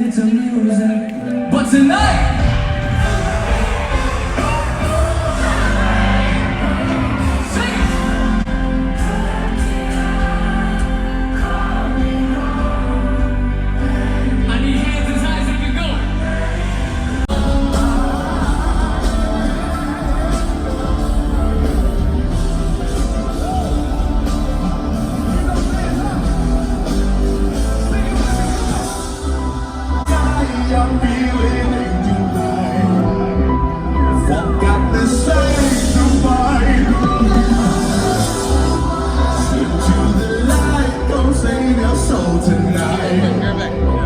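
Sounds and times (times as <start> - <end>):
live pop band playing: 0.0 - 44.0
person singing: 0.8 - 15.2, 16.0 - 44.0.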